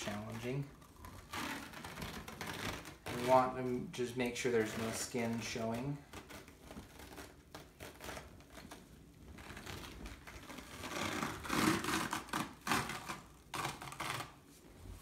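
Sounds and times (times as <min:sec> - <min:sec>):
elastic bandage crackling and rustling: 0:00.0 - 0:15.0.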